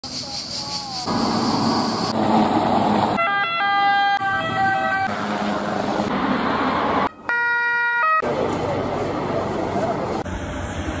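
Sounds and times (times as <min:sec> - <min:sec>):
vehicle noise: 0:00.0 - 0:11.0.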